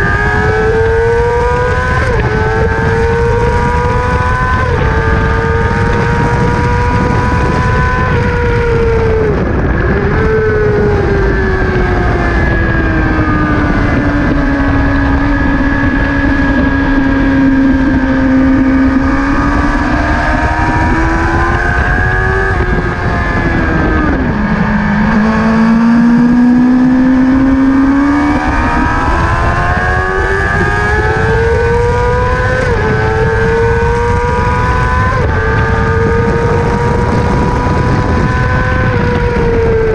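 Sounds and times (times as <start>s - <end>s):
motorcycle engine shifting gears: 0.0s - 39.9s
wind over microphone: 0.0s - 39.9s.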